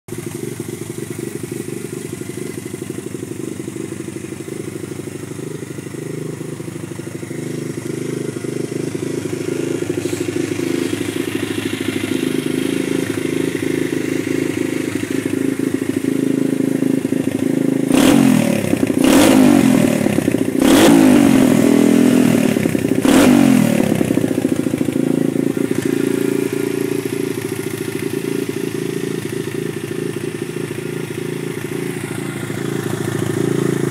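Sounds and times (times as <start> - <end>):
pit bike engine idling and revving: 0.1 - 33.9.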